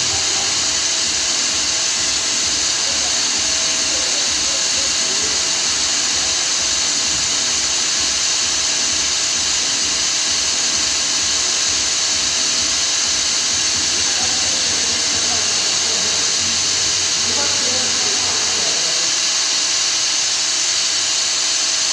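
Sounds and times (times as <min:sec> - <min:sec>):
loud mechanical hiss: 0:00.0 - 0:21.9.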